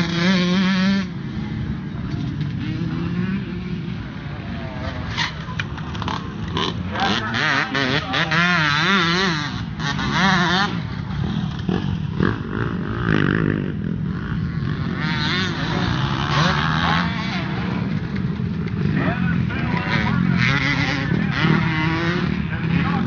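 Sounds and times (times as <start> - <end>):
background bikes: 0.0 - 23.0
dirt bike engine revving: 0.0 - 23.0.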